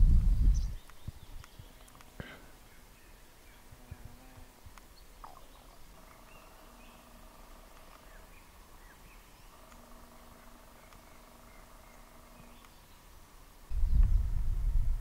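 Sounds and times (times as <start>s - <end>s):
faint steady hum: 0.0s - 15.0s
wild birds chirping: 0.3s - 14.1s.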